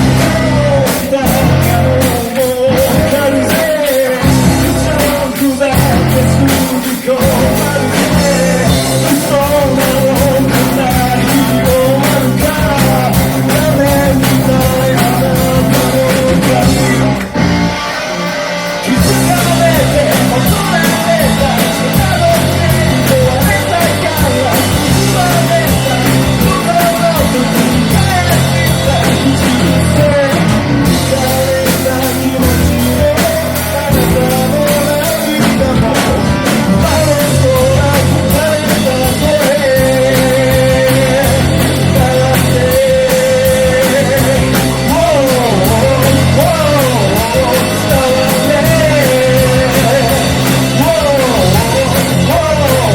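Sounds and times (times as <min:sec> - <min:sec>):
person singing: 0:00.0 - 0:52.9
rock band playing live: 0:00.0 - 0:52.9.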